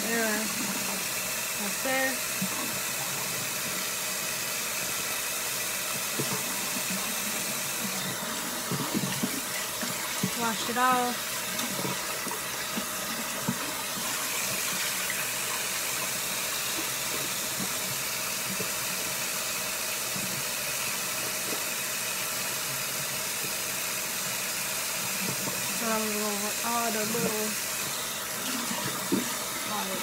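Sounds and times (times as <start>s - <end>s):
faucet running into sink: 0.0s - 30.0s.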